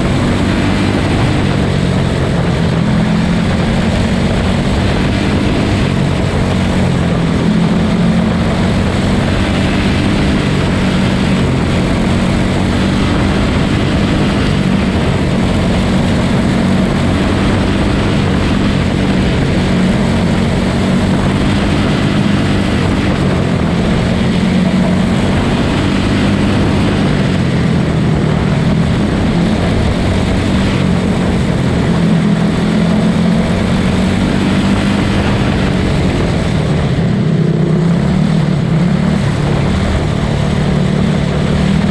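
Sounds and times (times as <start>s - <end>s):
small race car engines buzzing: 0.0s - 41.9s.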